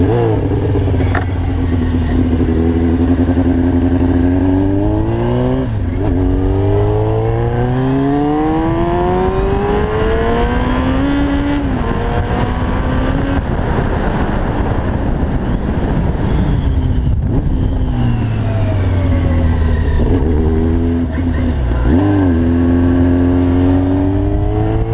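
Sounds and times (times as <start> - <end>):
motorcycle accelerating through gears: 0.0 - 24.9
rushing wind noise: 0.0 - 24.9.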